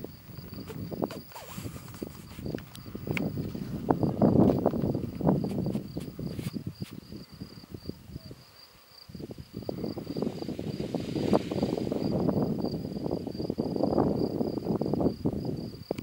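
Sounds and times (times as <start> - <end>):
high insect trill: 0.0 - 16.0
wind buffeting microphone: 0.0 - 16.0.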